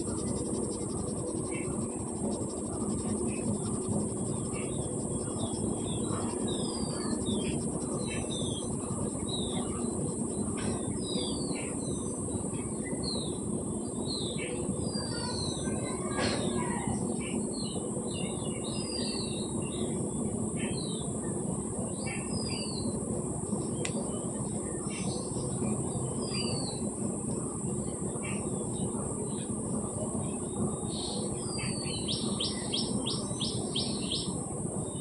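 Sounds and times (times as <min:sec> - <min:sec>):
small birds chirping: 0:00.0 - 0:21.2, 0:23.6 - 0:35.0
steady background hiss: 0:00.0 - 0:35.0.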